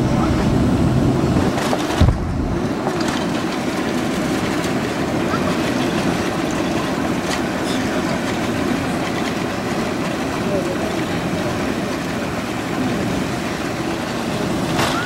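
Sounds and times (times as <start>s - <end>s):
jet engines roaring: 0.0s - 15.0s
wheels on runway: 0.0s - 15.0s.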